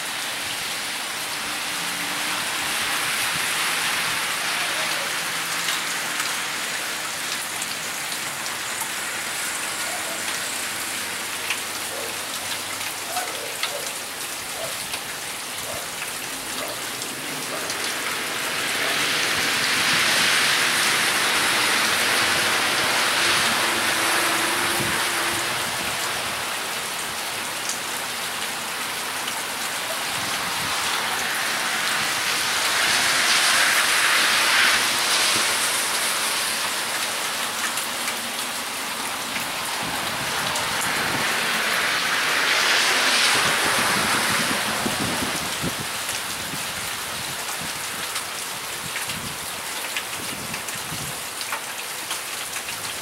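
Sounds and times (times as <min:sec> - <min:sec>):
heavy rain on road: 0:00.0 - 0:53.0.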